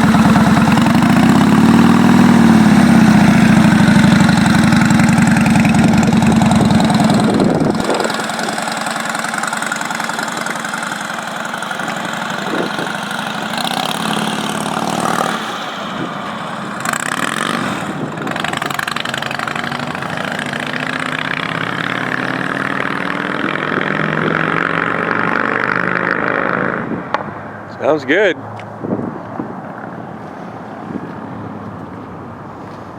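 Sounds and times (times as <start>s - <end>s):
motorcycle engine running: 0.0s - 27.3s.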